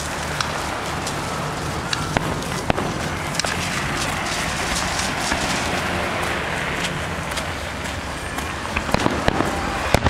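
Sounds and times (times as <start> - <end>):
fireworks popping and crackling: 0.0 - 10.0
steady noisy rumble: 0.0 - 10.0.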